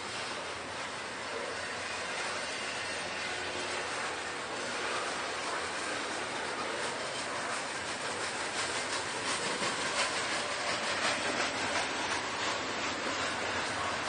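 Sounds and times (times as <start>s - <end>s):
train wheels rushing on rail: 0.0s - 14.0s.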